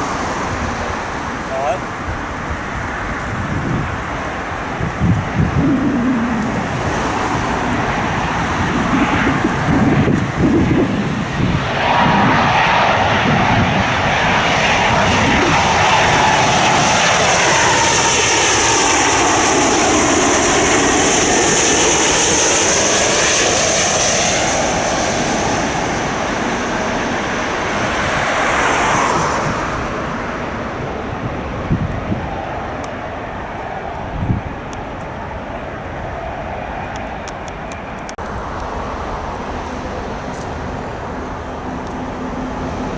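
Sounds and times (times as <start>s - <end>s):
jet airliner passing: 0.0s - 42.9s
wind buffeting microphone: 0.0s - 42.9s.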